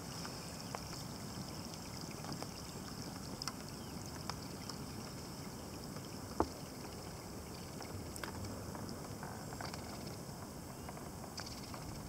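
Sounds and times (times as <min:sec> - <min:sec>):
raindrops plinking on water: 0:00.1 - 0:10.0.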